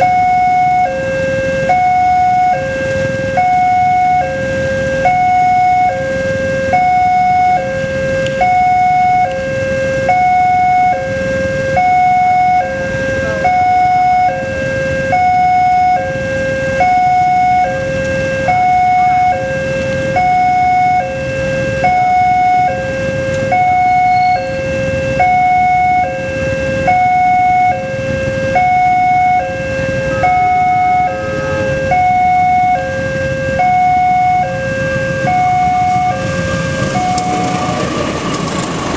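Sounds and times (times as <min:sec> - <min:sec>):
two-tone crossing warning alarm: 0:00.0 - 0:38.9.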